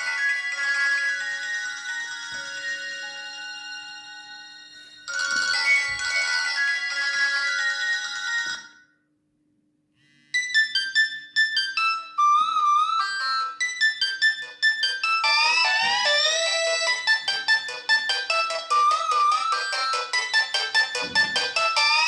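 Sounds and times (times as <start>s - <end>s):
phone ringtones playing: 0.0s - 8.8s, 10.4s - 22.0s.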